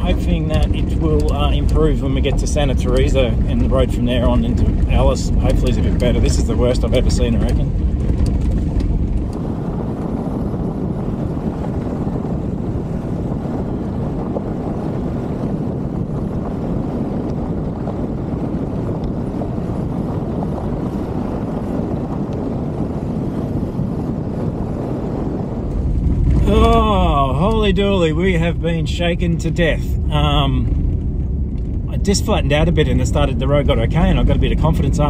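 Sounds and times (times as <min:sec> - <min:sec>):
tyre and road rumble: 0:00.0 - 0:35.0
wind rush on microphone: 0:00.0 - 0:35.0.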